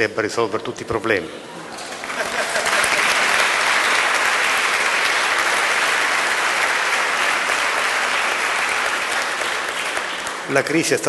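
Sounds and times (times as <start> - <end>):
audience applauding: 1.7 - 10.9.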